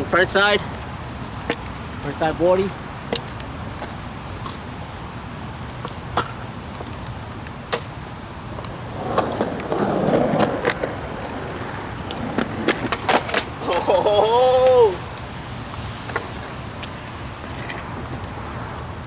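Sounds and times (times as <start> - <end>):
skateboard wheels rolling: 0.0 - 19.0.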